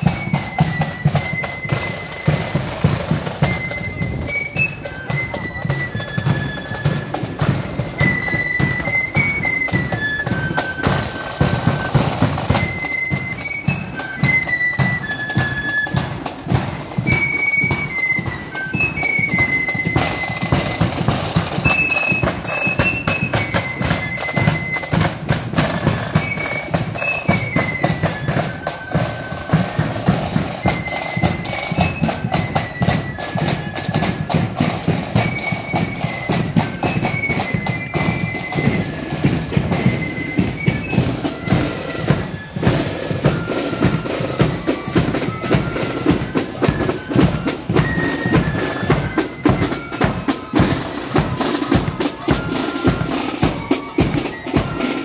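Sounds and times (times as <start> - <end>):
flutes playing a melody: 0.0 - 55.0.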